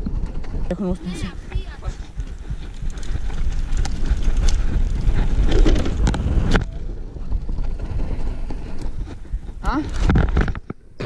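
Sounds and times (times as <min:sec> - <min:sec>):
bike clicks and rattles: 0:00.0 - 0:10.9
wind rumbling on microphone: 0:00.0 - 0:11.0.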